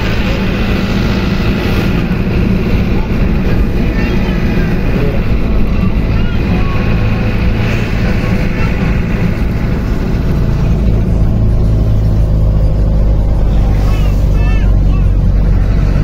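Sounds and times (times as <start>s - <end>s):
bus engine drone: 0.0s - 16.0s
road and wind noise: 0.0s - 16.0s.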